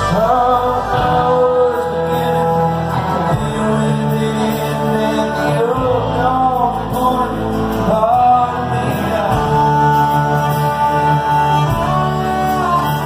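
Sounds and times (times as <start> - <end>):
live country band playing: 0.0 - 13.0
man singing: 0.0 - 13.0.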